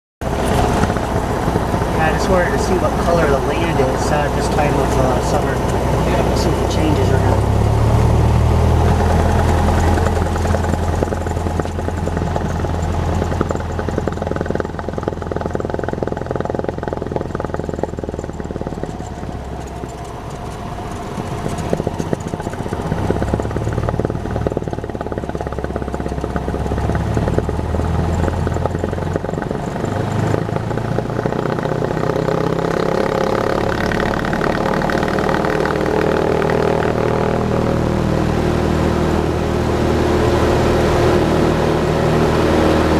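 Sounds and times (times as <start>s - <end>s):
propeller aircraft engine running: 0.2s - 42.9s.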